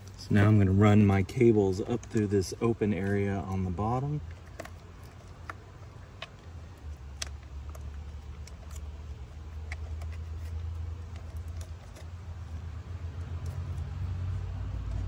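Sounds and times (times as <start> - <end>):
low steady rumble: 0.0 - 15.0
small clicks and rustles: 0.0 - 15.0.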